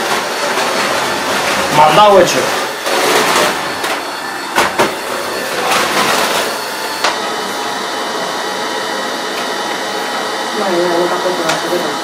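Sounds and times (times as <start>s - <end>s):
shop vacuum motor running: 0.0s - 12.0s.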